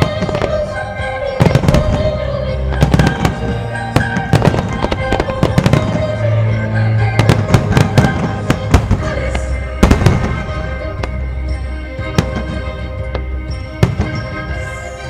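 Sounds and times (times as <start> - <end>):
loud soundtrack music: 0.0 - 15.0.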